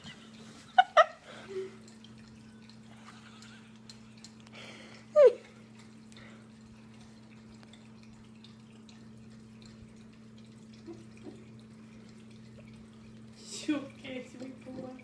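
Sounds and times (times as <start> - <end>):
water dripping: 0.0 - 15.0
dog lapping water: 1.6 - 15.0.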